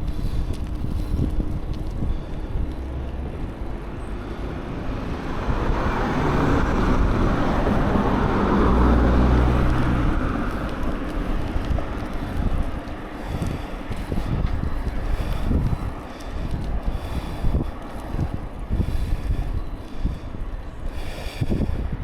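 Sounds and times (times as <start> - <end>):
wind buffeting microphone: 0.0 - 22.0
car passing: 2.2 - 22.0.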